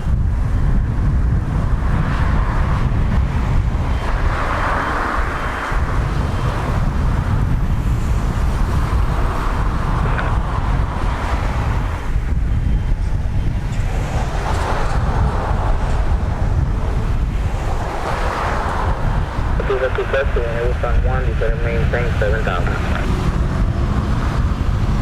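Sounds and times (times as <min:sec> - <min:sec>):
gusty wind buffeting microphone: 0:00.0 - 0:25.0.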